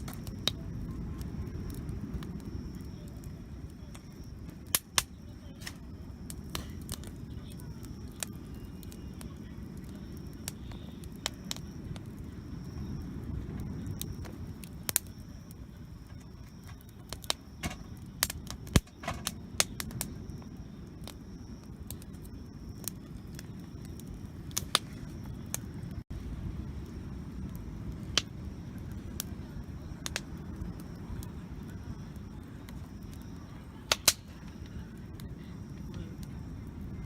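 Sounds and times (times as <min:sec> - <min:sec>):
campfire crackling and popping: 0:00.0 - 0:37.0
fire low rumble: 0:00.0 - 0:37.0.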